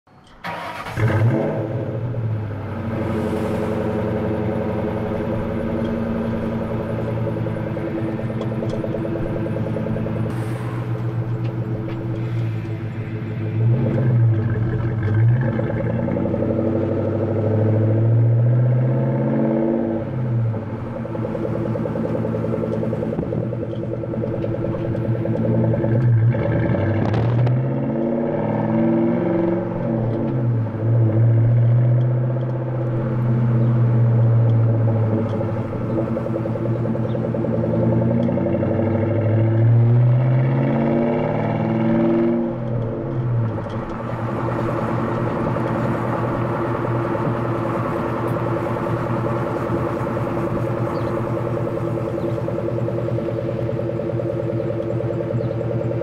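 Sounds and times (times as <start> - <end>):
car engine starting: 0.2 - 56.0
car engine idling: 0.4 - 18.1, 19.9 - 27.1, 29.6 - 39.7, 42.5 - 56.0
car engine revving while driving: 0.5 - 56.0.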